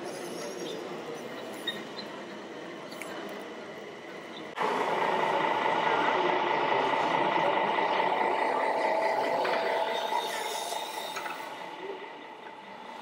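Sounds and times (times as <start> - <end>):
model machines mechanical hum: 0.1 - 13.0.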